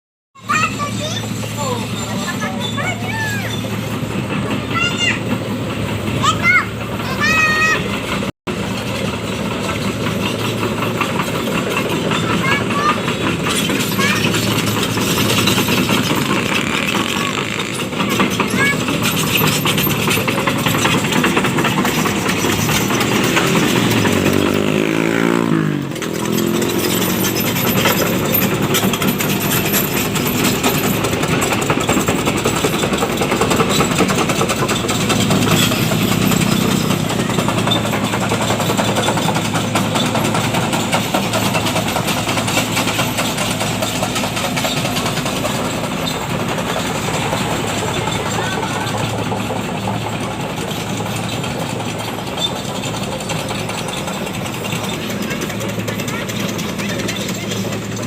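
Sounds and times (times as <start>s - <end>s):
excavator diesel engine: 0.4s - 58.0s
dense mechanical rattle: 0.6s - 58.0s.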